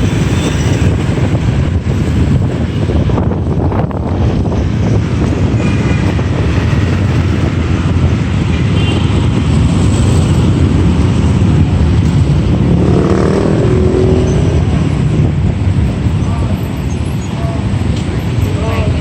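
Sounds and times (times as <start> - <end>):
city traffic: 0.0 - 19.0
wind buffeting microphone: 0.0 - 19.0.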